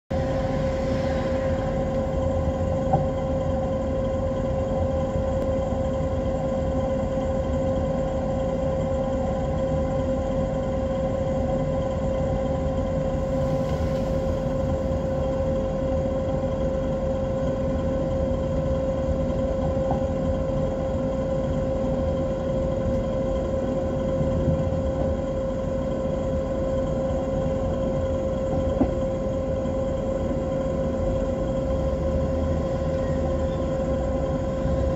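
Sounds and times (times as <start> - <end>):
steady hum: 0.1 - 34.9
train running along track: 0.1 - 34.9.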